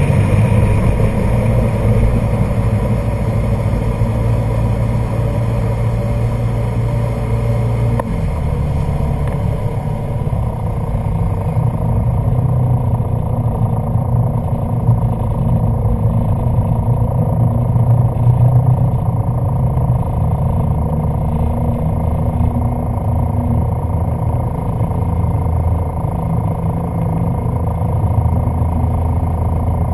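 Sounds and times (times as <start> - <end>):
jet boat engines running: 0.0 - 29.9.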